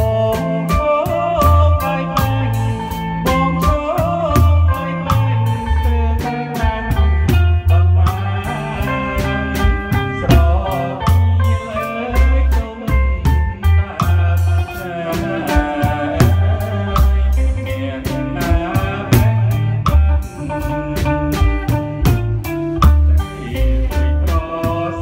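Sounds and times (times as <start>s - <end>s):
drum kit cymbal beat: 0.0s - 25.0s
electric bass guitar: 0.0s - 25.0s
electric guitar: 0.0s - 25.0s
live band playing dance song: 0.0s - 25.0s.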